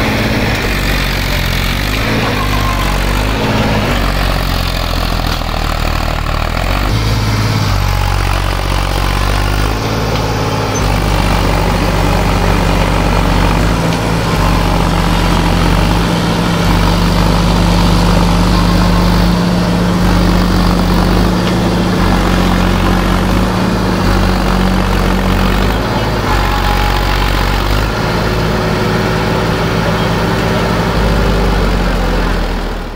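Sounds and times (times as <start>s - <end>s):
heavy diesel engines running: 0.0s - 32.9s.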